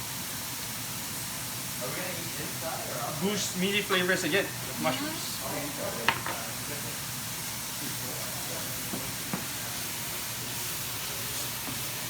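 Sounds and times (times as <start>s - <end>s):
mushrooms sizzling: 0.1s - 12.0s.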